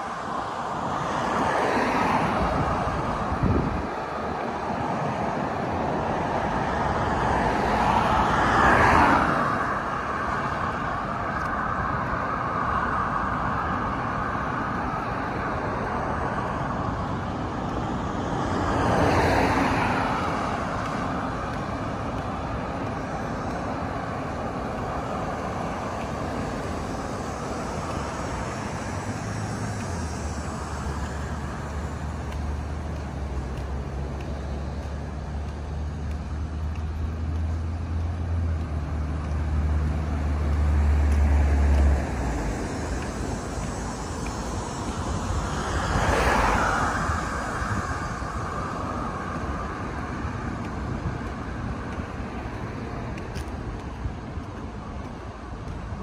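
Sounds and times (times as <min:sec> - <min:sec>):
road traffic passing: 0:00.0 - 0:56.0
vehicles passing close by: 0:00.0 - 0:56.0.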